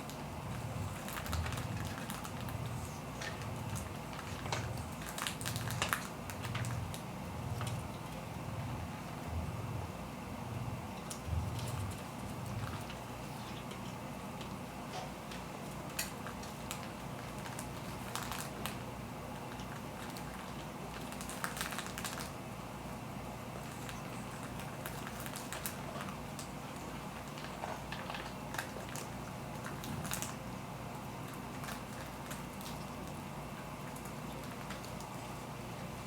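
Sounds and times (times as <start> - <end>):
pets nibbling grass clicks: 0.0 - 9.4, 11.0 - 22.6, 23.2 - 36.0
steady low hum: 0.0 - 36.0.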